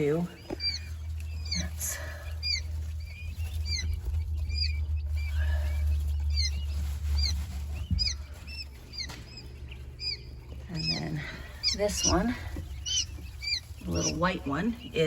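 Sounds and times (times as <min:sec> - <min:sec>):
quail chicks peeping: 0:00.0 - 0:15.0
steady low hum: 0:00.0 - 0:15.0.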